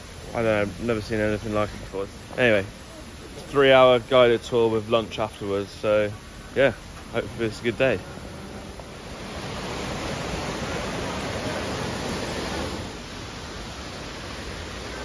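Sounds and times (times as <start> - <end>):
stream rushing over boulders: 0.0 - 15.0.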